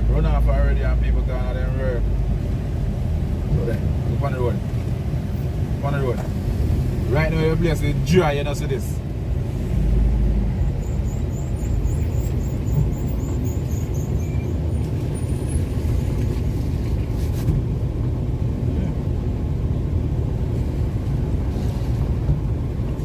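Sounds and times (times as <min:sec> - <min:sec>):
vehicle driving rumble: 0:00.0 - 0:23.0.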